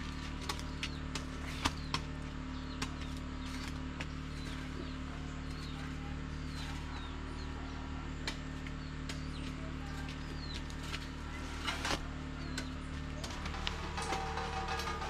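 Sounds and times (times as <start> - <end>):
small birds chirping: 0.0 - 14.8
steady low hum: 0.0 - 15.0.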